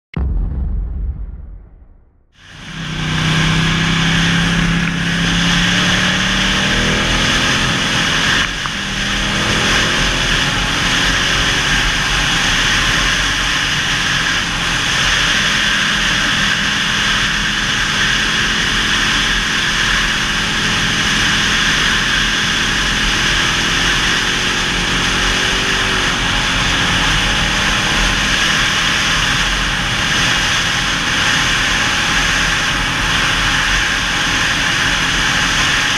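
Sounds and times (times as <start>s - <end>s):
motorcycle engine running: 2.4s - 35.9s.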